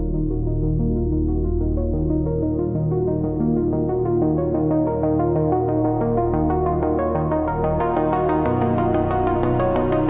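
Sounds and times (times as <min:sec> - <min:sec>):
ambient synthesizer music: 0:00.0 - 0:10.0.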